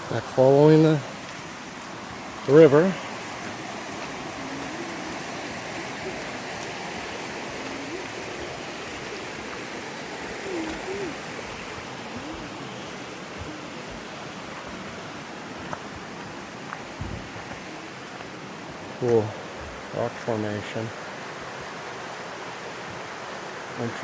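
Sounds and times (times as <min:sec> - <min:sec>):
river rushing: 0:00.0 - 0:24.0.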